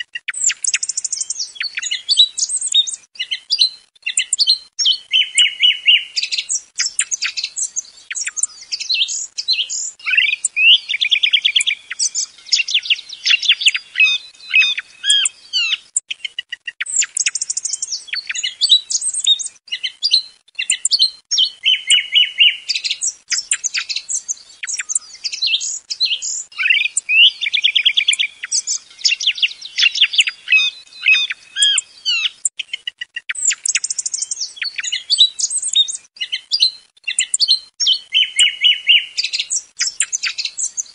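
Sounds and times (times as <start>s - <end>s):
song thrush singing: 0.0s - 40.9s.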